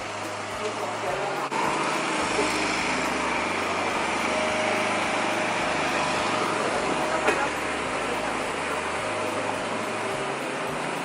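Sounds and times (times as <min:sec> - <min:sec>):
busy street noise: 0:00.0 - 0:11.0
small engine running: 0:00.0 - 0:11.0.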